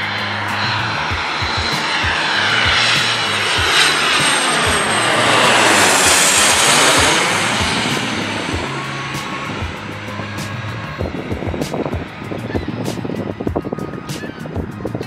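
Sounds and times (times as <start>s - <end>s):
jet passing low overhead: 0.0s - 15.0s.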